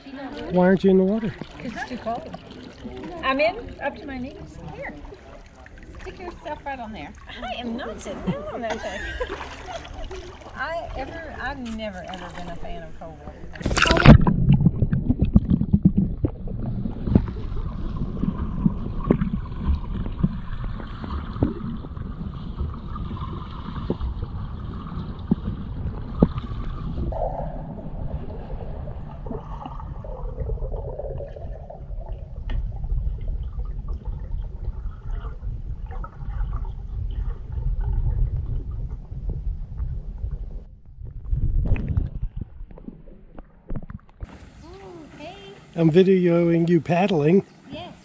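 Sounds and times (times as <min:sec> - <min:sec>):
muffled underwater water rumble: 0:00.0 - 0:45.8
faint gurgling: 0:00.2 - 0:45.8.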